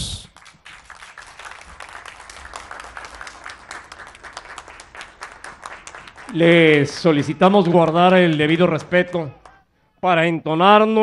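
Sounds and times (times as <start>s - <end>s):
small group applauding: 0.2s - 9.7s.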